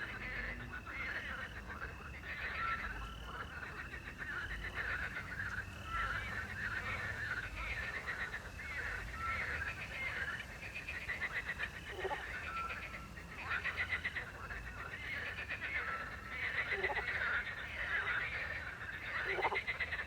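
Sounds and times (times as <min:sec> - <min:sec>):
chorus of frogs croaking: 0:00.0 - 0:20.0.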